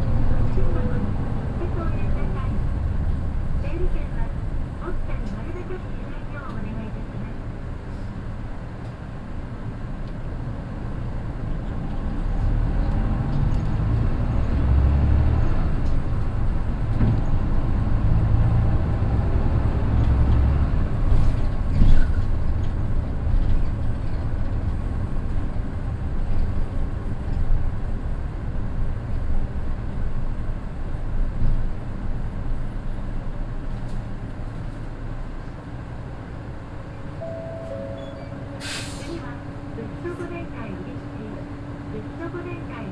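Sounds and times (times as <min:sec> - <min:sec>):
bus diesel engine accelerating: 0:00.0 - 0:42.9.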